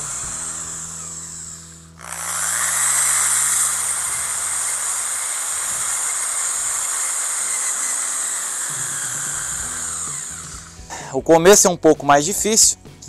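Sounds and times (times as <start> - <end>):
angle grinder motor whining: 0.0 - 10.9
auger boring into hard earth: 0.0 - 11.0.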